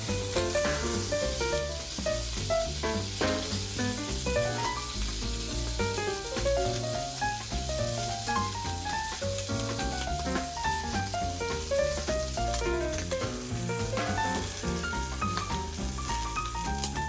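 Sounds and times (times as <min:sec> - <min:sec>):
crackling hiss: 0:00.0 - 0:17.0.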